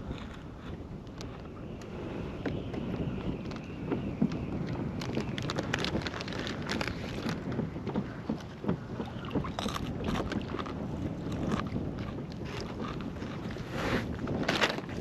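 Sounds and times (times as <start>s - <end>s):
wind buffeting microphone: 0.0s - 15.0s
water splashing against a hull: 0.2s - 15.0s.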